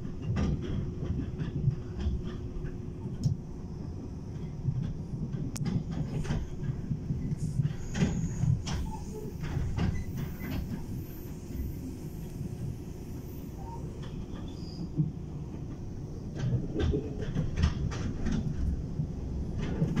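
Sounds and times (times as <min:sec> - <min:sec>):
train clicks and knocks: 0:00.0 - 0:20.0
train rumbling: 0:00.0 - 0:20.0.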